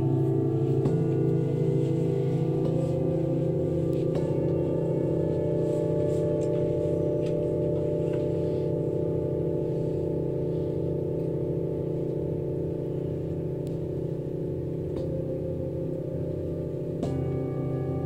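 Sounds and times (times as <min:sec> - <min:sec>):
singing bowls ringing: 0:00.0 - 0:18.0.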